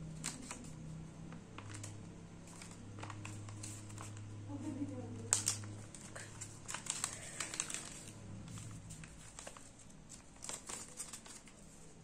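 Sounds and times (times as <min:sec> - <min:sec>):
paper rustling and crinkling: 0:00.1 - 0:12.0.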